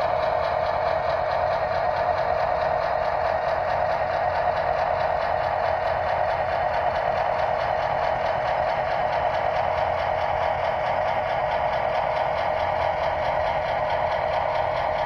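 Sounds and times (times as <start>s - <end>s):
model train motor whirring: 0.0s - 15.0s.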